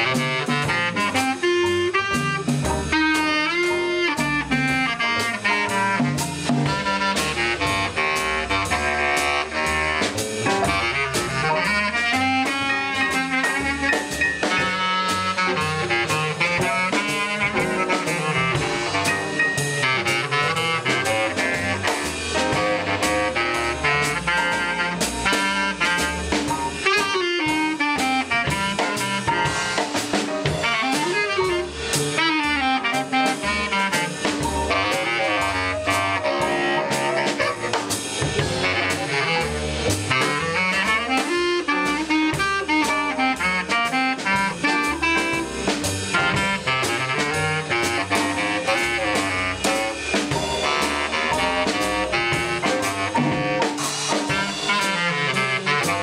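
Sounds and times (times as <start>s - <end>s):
drum kit with cymbal beat: 0.0s - 56.0s
piano: 0.0s - 56.0s
saxophone: 0.0s - 56.0s
walking double bass: 0.0s - 56.0s.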